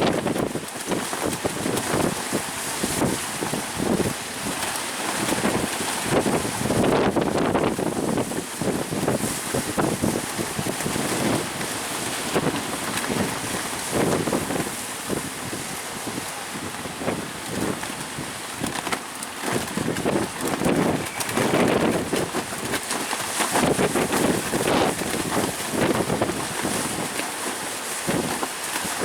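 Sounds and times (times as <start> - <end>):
sea waves and surf: 0.0 - 29.0
wind buffeting microphone: 0.0 - 29.0.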